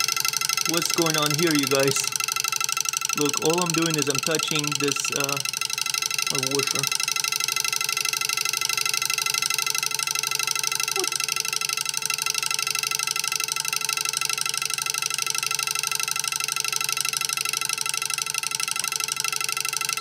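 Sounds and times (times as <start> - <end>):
vibrating switch buzzing: 0.0 - 20.0.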